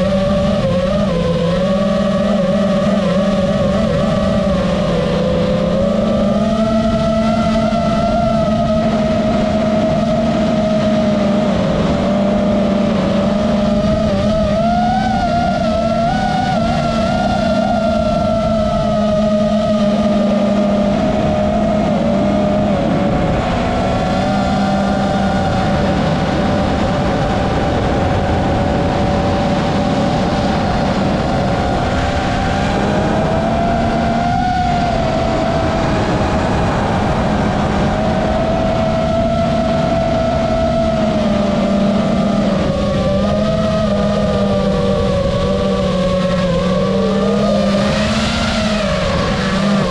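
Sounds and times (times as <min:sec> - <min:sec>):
quadcopter motors whining: 0:00.0 - 0:49.9
steady low hum: 0:00.0 - 0:49.9.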